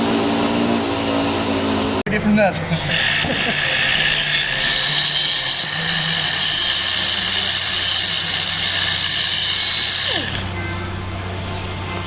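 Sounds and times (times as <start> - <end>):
power tool whirring: 0.0 - 2.1, 2.8 - 10.6.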